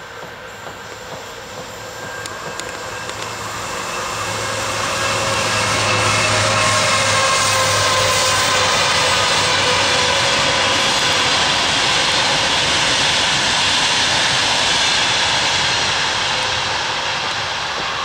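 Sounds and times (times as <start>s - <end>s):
faint locomotive whine: 0.0s - 18.0s
train wheels rushing on rails: 0.0s - 18.0s.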